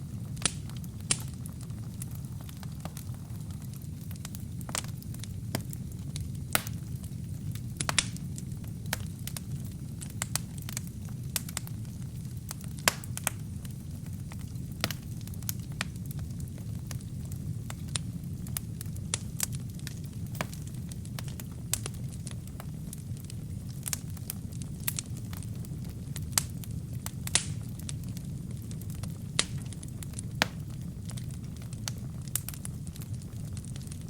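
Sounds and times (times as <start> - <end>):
burning logs crackling and popping: 0.0 - 34.0
fire flames rumbling: 0.0 - 34.0.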